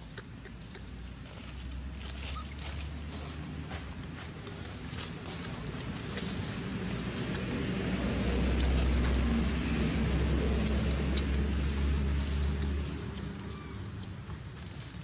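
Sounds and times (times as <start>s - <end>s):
engine rumble: 0.0s - 15.0s
faint leaf rustle: 0.9s - 15.0s.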